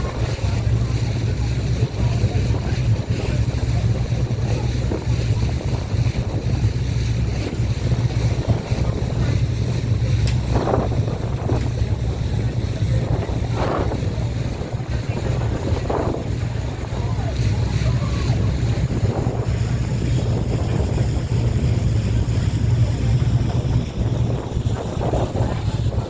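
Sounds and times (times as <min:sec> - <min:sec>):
boat engine humming: 0:00.0 - 0:26.0
water rushing past hull: 0:00.0 - 0:26.0
wind buffeting microphone: 0:00.0 - 0:26.0.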